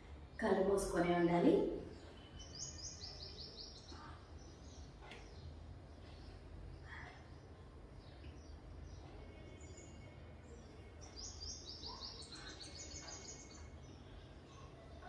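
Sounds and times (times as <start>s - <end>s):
bird chirping: 1.8s - 15.0s.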